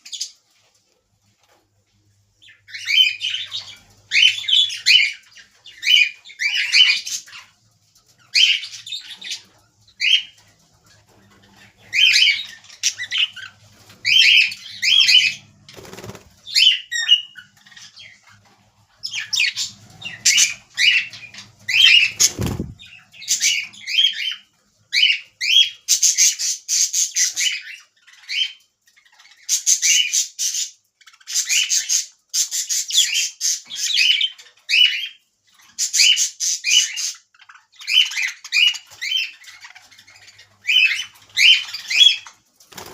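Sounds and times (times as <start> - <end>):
budgerigars chirping and squawking: 0.0 - 0.8, 2.3 - 42.9.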